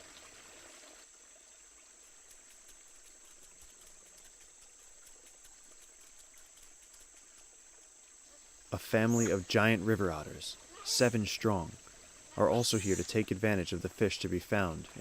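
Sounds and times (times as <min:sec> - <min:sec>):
faint scattered ticks: 0:00.7 - 0:15.0
insect chorus high-pitched drone: 0:01.1 - 0:15.0.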